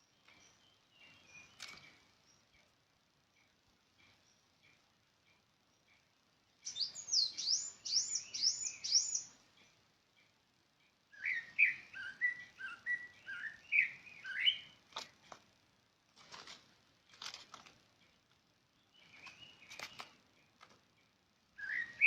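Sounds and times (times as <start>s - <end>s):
songbird singing: 0.0s - 15.8s, 16.5s - 22.0s.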